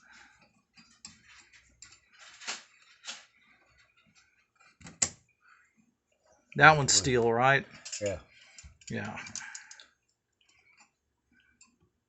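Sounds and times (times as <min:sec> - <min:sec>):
copper tubing scraping and clicking: 0:00.3 - 0:11.8.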